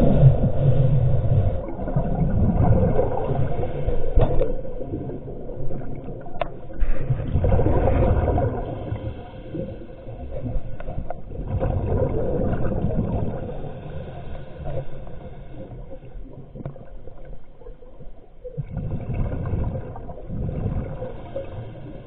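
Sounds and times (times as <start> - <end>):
underwater gurgling and rushing: 0.0 - 22.0.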